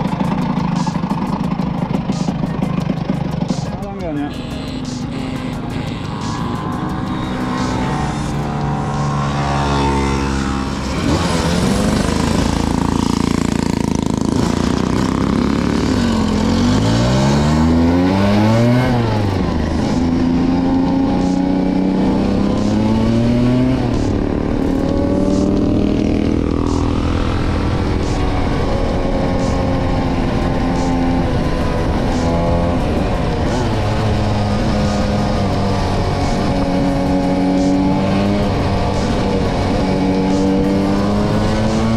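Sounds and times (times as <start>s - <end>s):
scooter engine revving: 0.0s - 41.9s.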